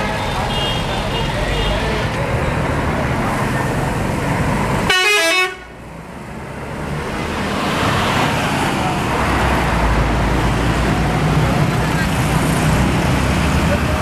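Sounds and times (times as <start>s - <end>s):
bus diesel engine rumbling: 0.0s - 14.0s
traffic noise: 0.0s - 14.0s.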